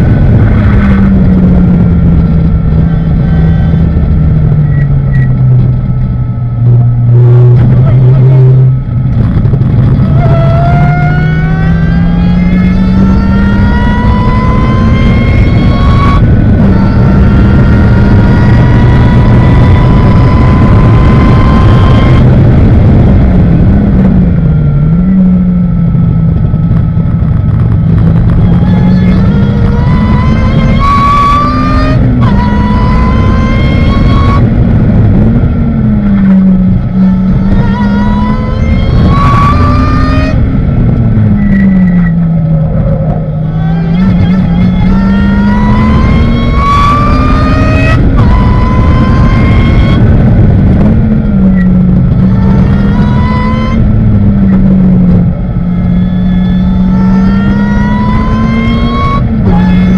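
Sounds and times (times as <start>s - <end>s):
race car engine revving: 0.0s - 59.9s
wind noise: 0.0s - 59.9s.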